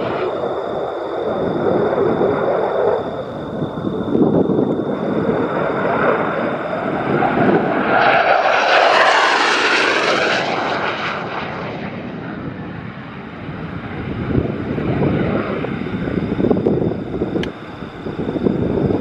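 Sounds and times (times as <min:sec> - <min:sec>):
jet flying past: 0:00.0 - 0:19.0.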